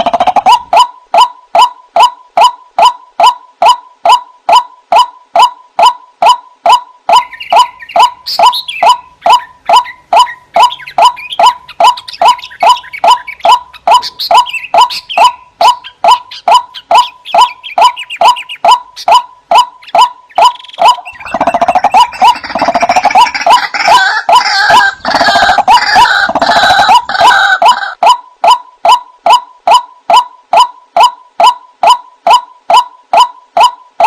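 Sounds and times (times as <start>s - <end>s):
chatter of bird calls: 0.0s - 33.8s
waterhen calling: 0.0s - 34.0s.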